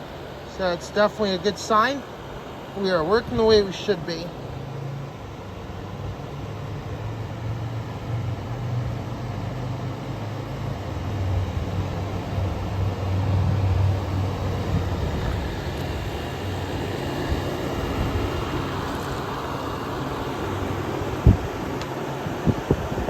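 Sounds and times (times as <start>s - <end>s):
compressor hum: 0.0s - 23.0s
fan rushing: 0.0s - 23.0s.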